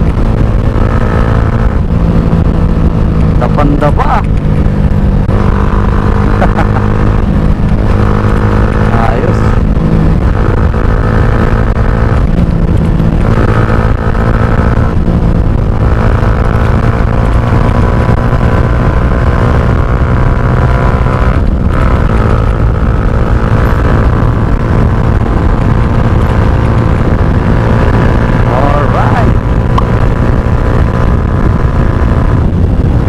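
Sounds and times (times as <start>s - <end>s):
motorcycle engine accelerating: 0.0s - 33.0s
wind rumble on microphone: 0.0s - 33.0s.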